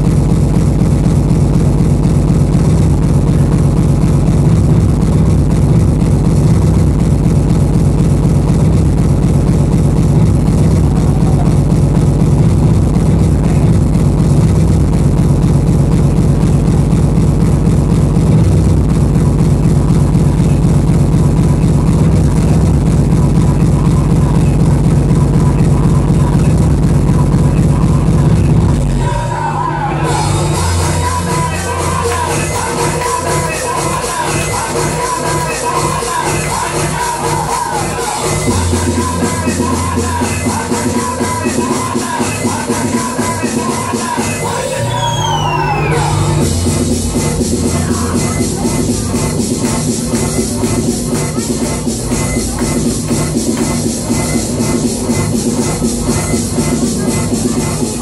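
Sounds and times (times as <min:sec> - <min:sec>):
fast distorted kick drums: 0:00.0 - 0:29.1, 0:30.0 - 0:58.0
speedcore music: 0:00.0 - 0:58.0.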